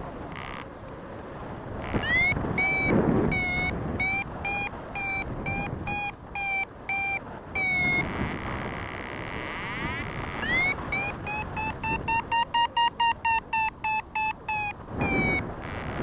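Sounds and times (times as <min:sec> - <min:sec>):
wind rumble: 0:00.0 - 0:16.0
variometer beeping: 0:01.8 - 0:16.0.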